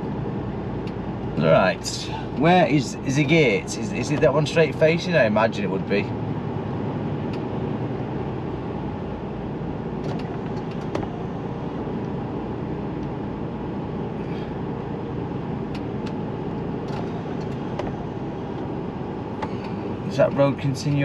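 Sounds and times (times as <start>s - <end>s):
lorry diesel engine running: 0.0s - 21.0s.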